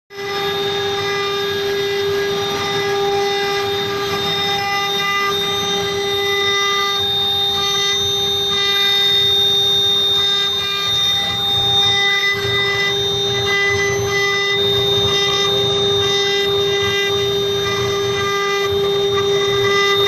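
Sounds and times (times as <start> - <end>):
cnc router spindles whining: 0.1 - 20.0.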